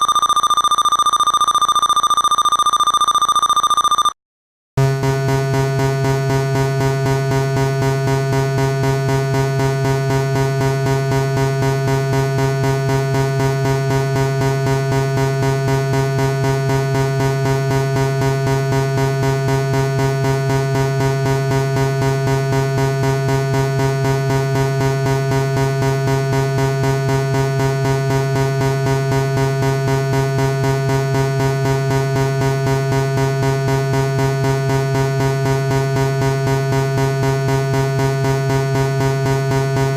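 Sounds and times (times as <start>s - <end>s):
pulsing synthesizer buzz: 4.8s - 39.9s.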